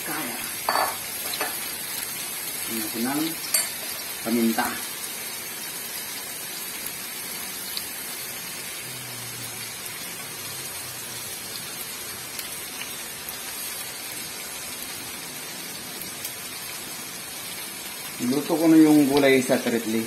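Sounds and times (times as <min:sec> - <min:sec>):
meat sizzling in a wok: 0:00.0 - 0:20.0.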